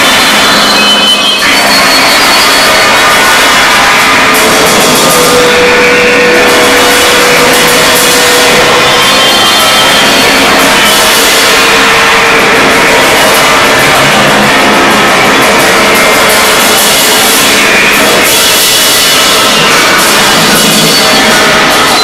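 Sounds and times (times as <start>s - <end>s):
amplified tin cans with echo: 0.0s - 22.0s
drums: 0.0s - 22.0s.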